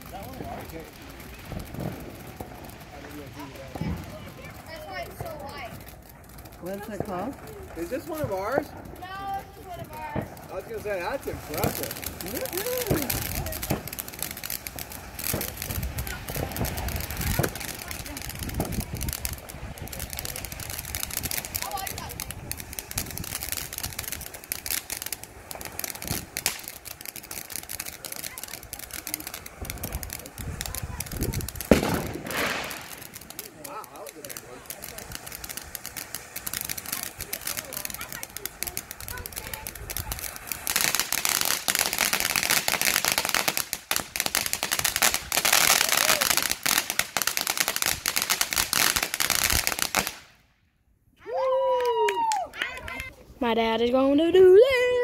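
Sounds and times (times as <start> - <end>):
firework loud crack: 0.0 - 50.5
firework crackling: 0.0 - 55.0.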